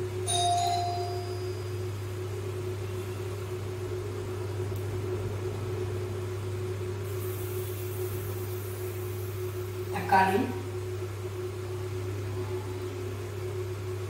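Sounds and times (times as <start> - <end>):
kitchen fan motor hum: 0.0 - 14.0.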